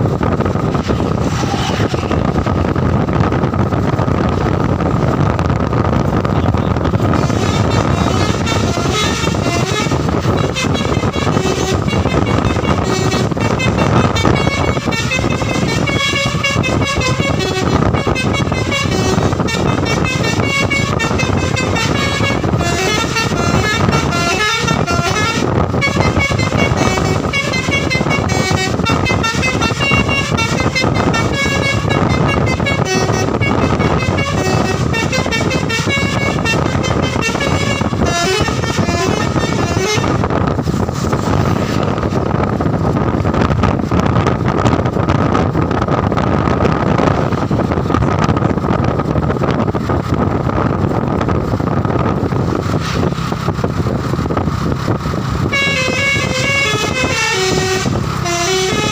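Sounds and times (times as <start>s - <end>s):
low rumble: 0.0s - 58.9s
bus horn playing a melody: 0.1s - 51.3s, 52.0s - 58.9s.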